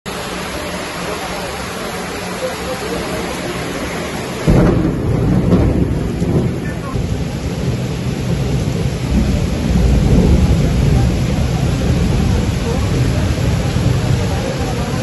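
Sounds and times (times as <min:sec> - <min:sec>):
heavy rain falling: 0:00.0 - 0:15.0
loud low rumble: 0:00.1 - 0:15.0.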